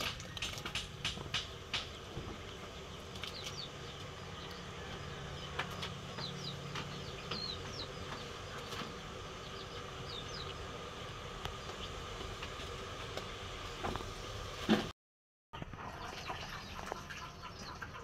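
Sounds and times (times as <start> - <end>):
small birds chirping: 0.0 - 14.4, 15.9 - 18.0
steady low hum: 0.0 - 14.9.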